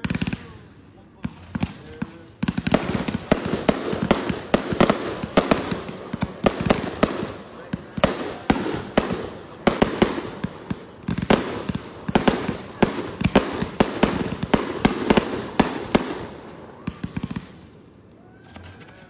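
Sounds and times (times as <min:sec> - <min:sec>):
fireworks bursts and bangs: 0:00.0 - 0:19.0
small firework cracks: 0:01.2 - 0:19.0.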